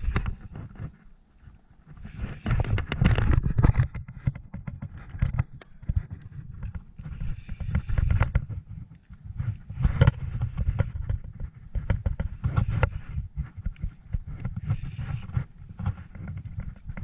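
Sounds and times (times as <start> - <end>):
knocks and bumps on a kayak: 2.3 - 17.0.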